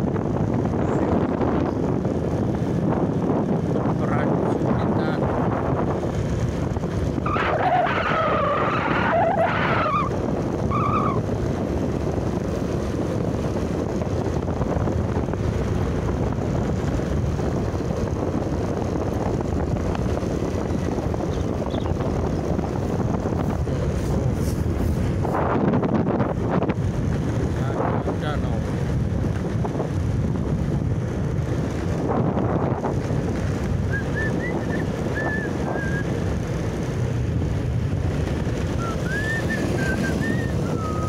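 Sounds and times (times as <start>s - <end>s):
road noise while riding: 0.0s - 41.0s
wind rush on microphone: 0.0s - 41.0s.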